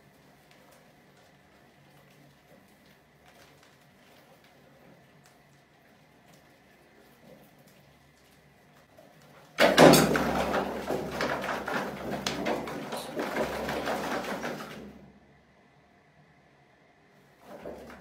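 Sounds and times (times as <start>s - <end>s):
mice rattling and scratching: 0.0s - 15.0s, 17.4s - 18.0s.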